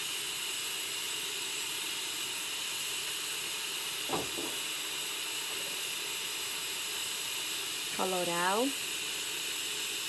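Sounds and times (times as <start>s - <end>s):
pressure cooker hissing: 0.0s - 10.0s.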